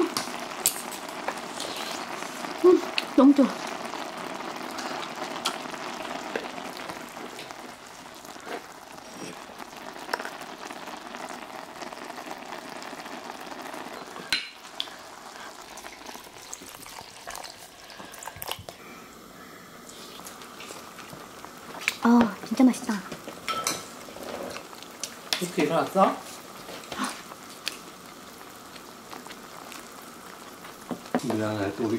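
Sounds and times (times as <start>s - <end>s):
stew bubbling in a pot: 0.0s - 31.9s.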